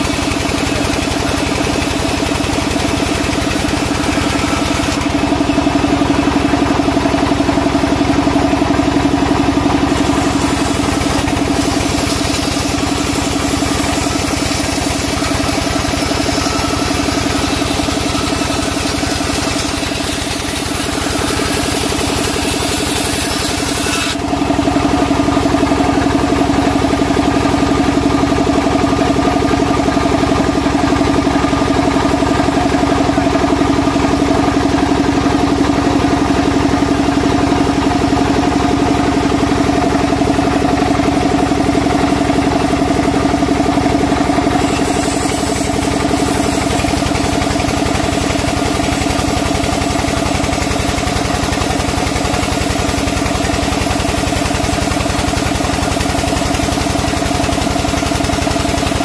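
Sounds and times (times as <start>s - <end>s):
band saw cutting timber: 0.0s - 59.0s.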